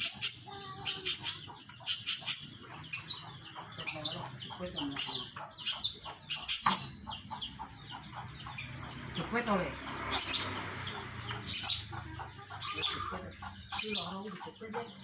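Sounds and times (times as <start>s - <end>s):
caged birds chirping shrilly: 0.0s - 15.0s.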